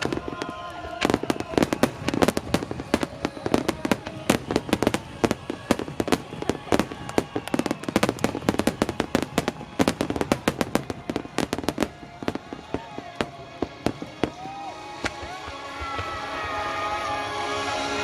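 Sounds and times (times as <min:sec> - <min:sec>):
fireworks bursting: 0:00.0 - 0:18.0
music playing: 0:00.0 - 0:18.0.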